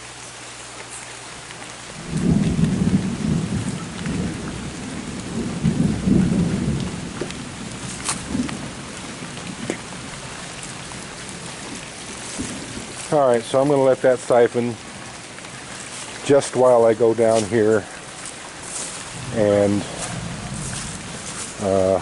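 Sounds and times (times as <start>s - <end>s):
rain on grass and leaves: 0.0s - 22.0s
thunder rumbling: 2.0s - 22.0s.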